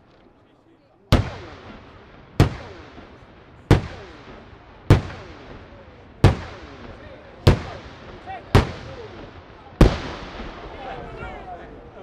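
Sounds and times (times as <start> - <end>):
echoing rumble: 1.2 - 12.0.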